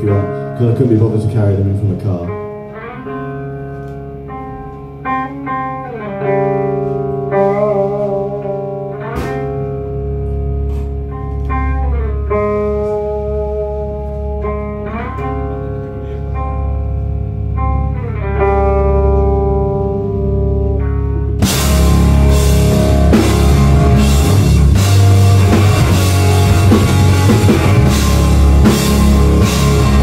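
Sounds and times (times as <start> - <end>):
electric guitar chords: 0.0 - 30.0.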